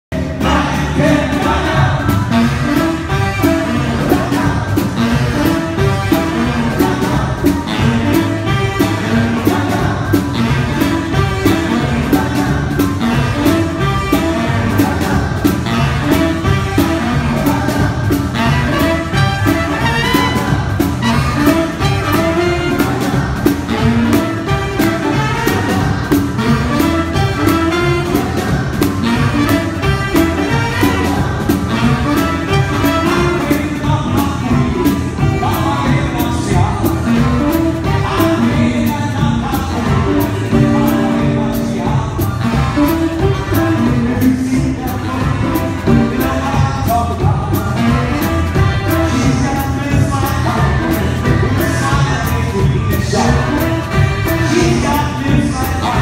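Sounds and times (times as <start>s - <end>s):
swing band playing: 0.1s - 56.0s.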